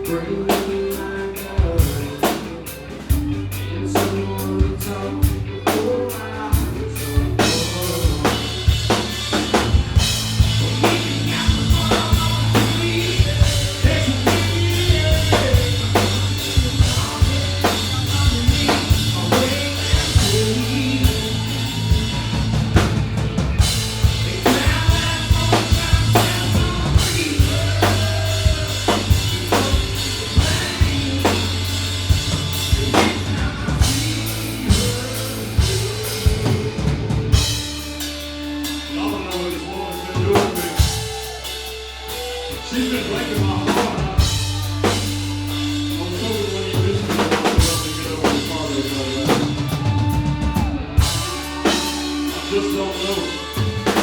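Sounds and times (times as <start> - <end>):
live band music: 0.0 - 54.0.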